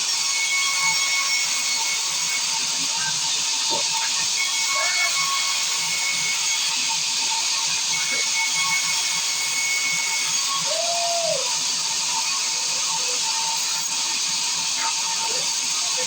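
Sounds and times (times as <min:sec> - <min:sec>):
circular saw cutting wood: 0:00.0 - 0:16.0.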